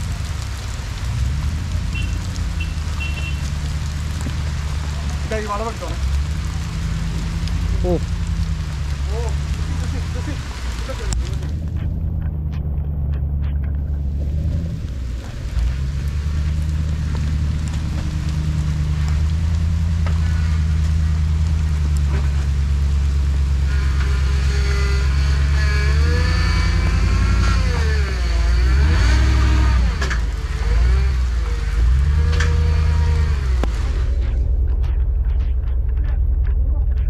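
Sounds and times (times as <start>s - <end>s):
engine revving: 0.0s - 37.0s.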